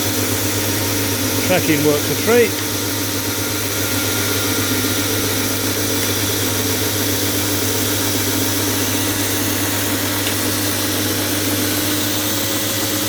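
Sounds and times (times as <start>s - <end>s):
belt grinder motor hum: 0.2s - 13.0s.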